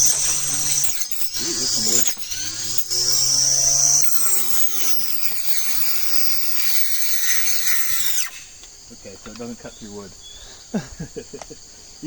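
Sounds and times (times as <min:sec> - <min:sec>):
cordless grass cutter whining: 0:00.0 - 0:10.4.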